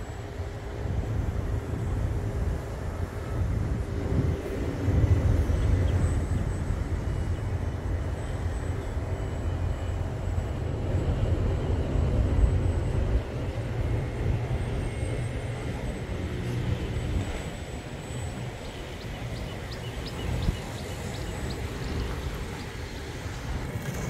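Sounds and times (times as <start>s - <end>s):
model plane motor whine: 0.0s - 24.0s
wind rumble on microphone: 0.0s - 24.0s.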